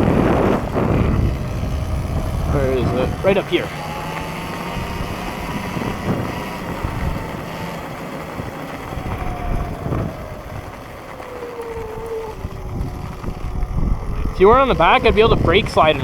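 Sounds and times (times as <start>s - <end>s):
electric motor whining: 0.0s - 16.0s
rough rumble with thumps: 0.0s - 16.0s
wind on microphone: 0.0s - 16.0s.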